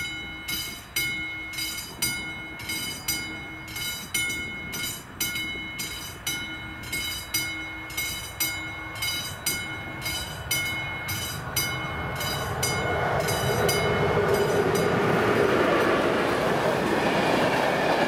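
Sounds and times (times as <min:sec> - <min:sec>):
level-crossing bell ringing: 0:00.0 - 0:16.2
train rushing past: 0:00.0 - 0:18.0.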